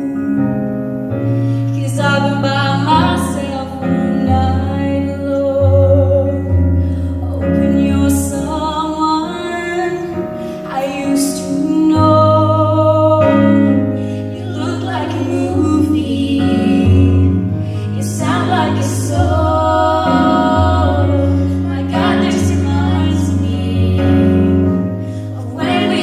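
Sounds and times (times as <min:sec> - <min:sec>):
keyboard chords: 0:00.0 - 0:26.0
woman singing: 0:01.7 - 0:06.5, 0:07.2 - 0:13.8, 0:14.4 - 0:24.8.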